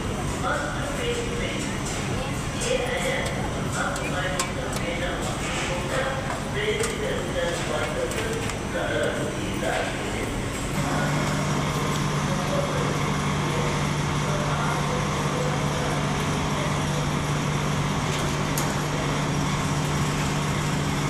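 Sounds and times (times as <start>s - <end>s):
machine humming and whirring: 0.0s - 21.0s.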